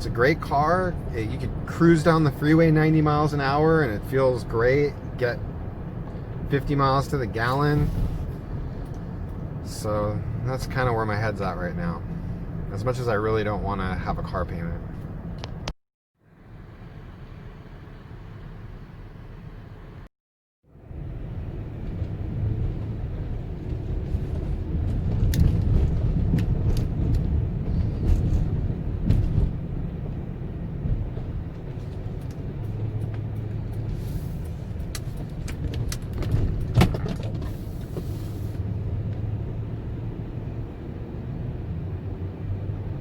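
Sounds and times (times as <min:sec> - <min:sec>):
road and engine rumble: 0:00.0 - 0:43.0.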